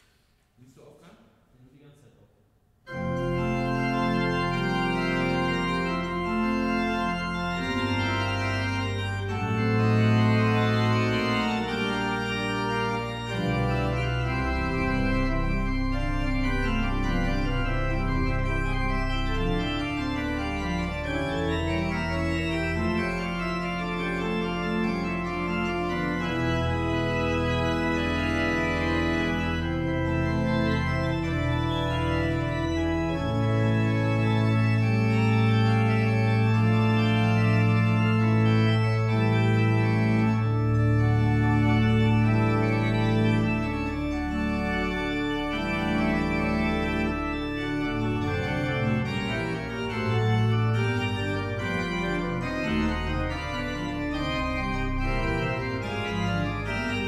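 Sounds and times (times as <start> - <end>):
pipe organ chords: 2.9 - 57.0.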